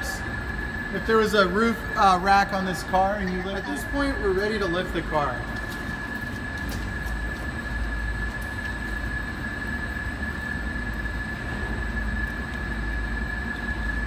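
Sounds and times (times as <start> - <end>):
high-pitched whine: 0.0 - 14.0
machine hum with low rumble: 0.0 - 14.0.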